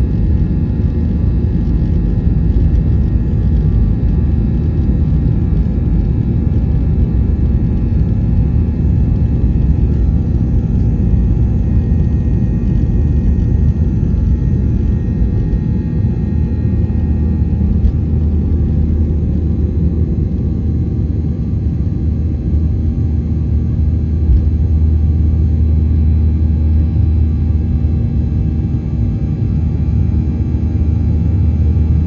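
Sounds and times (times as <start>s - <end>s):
jet engines drone in cabin: 0.0s - 32.0s.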